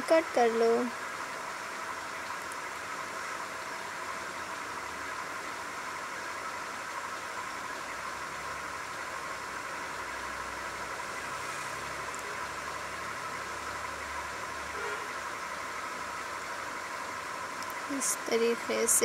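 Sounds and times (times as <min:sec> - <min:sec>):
steady hissing noise: 0:00.0 - 0:19.0.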